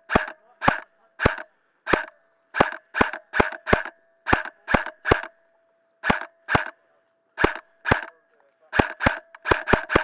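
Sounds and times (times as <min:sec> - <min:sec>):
airsoft rifle shots: 0:00.0 - 0:05.4, 0:06.0 - 0:10.0.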